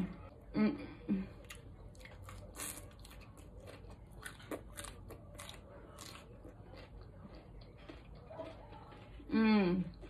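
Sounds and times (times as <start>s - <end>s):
person chewing crisp crunches: 1.3s - 10.0s.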